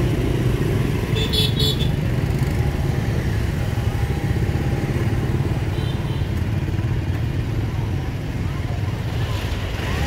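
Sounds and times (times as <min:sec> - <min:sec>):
motorbike engines rumbling: 0:00.0 - 0:10.0.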